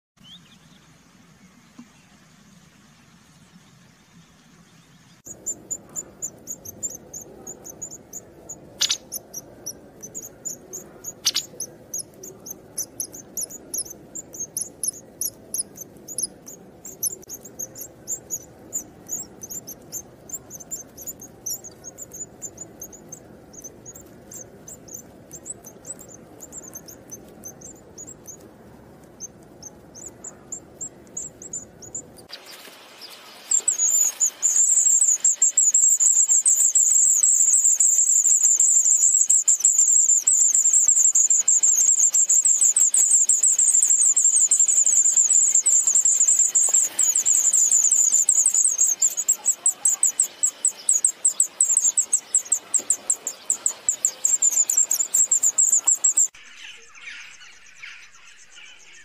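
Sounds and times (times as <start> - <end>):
nestlings begging calls: 5.3 - 32.3, 33.3 - 59.0.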